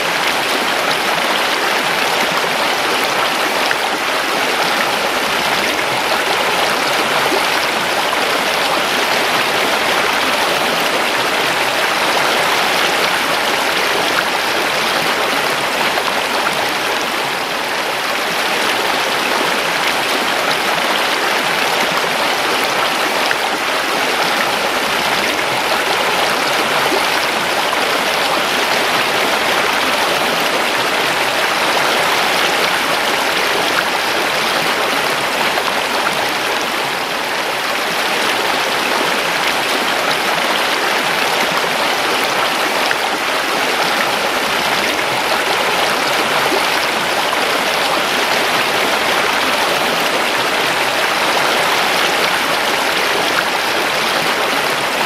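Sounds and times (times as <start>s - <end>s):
river water babbling over rocks: 0.0s - 55.0s.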